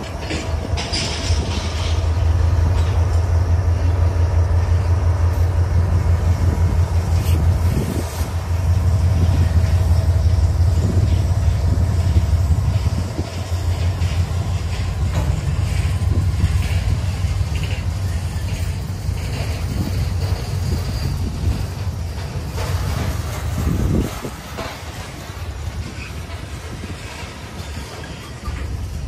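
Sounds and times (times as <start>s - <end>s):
freight train passing: 0.0s - 29.0s.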